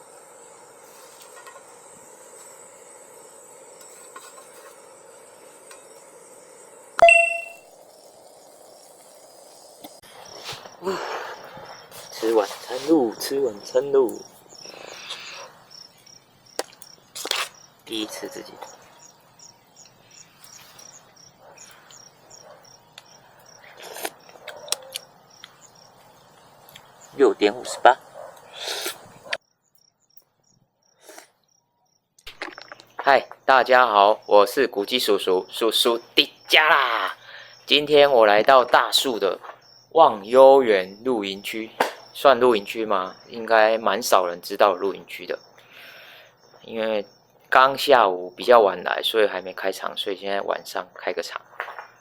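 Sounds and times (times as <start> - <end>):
insect trill: 0.0 - 52.0.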